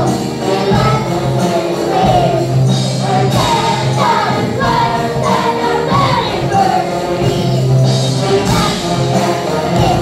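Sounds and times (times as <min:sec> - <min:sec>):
group of voices singing: 0:00.0 - 0:10.0.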